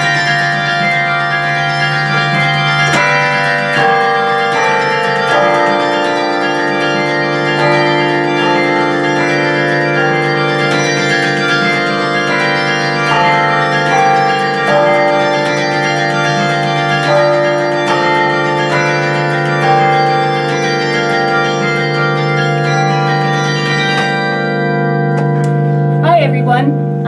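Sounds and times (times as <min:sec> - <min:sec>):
carillon bell melody: 0:00.0 - 0:27.0.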